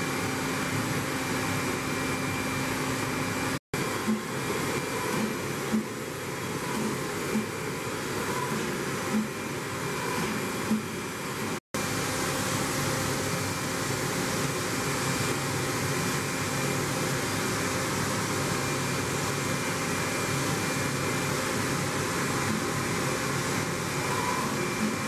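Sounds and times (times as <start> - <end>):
machine humming and hissing: 0.0 - 25.0.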